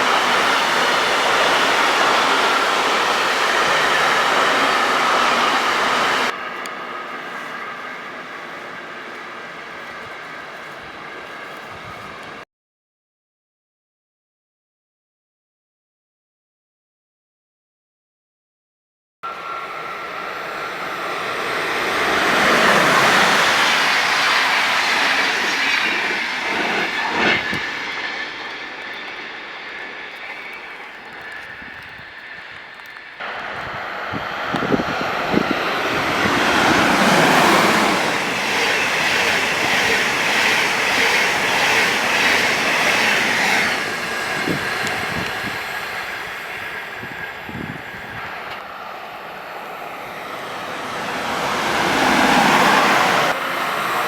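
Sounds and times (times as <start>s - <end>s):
train wheels rolling on rails: 0.0s - 12.4s, 19.3s - 54.0s.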